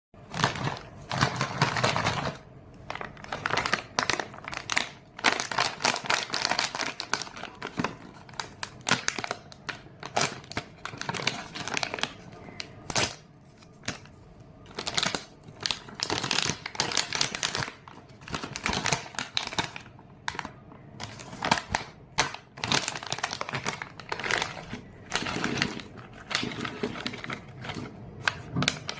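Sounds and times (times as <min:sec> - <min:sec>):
candy wrappers crinkling: 0:00.2 - 0:28.9.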